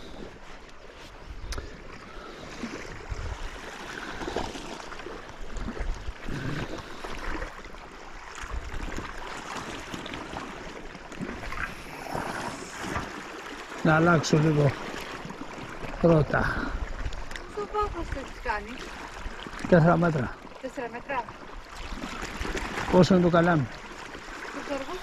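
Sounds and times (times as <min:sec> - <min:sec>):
small waves lapping: 0:00.0 - 0:25.0.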